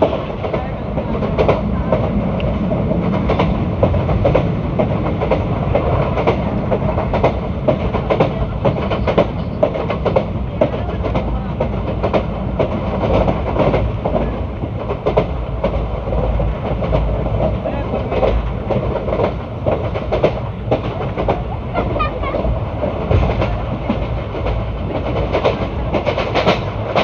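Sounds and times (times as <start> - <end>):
clickety-clack of rail joints: 0.0 - 27.0
train wheels rumbling on track: 0.0 - 27.0.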